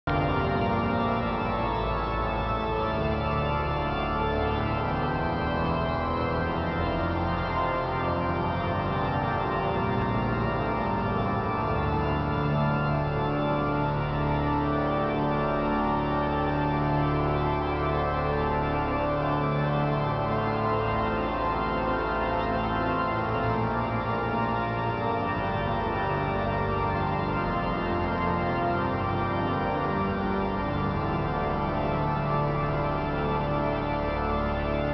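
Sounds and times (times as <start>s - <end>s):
pipe organ playing chords: 0.1s - 34.9s.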